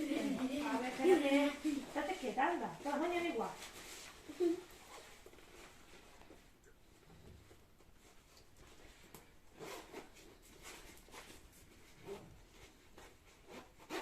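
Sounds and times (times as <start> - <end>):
faint rustles and handling noises: 0.0 - 14.0.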